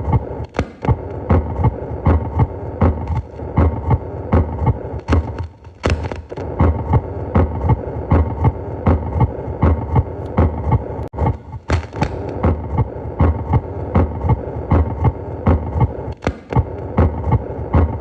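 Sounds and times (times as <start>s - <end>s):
heartbeat through stethoscope: 0.0s - 18.0s.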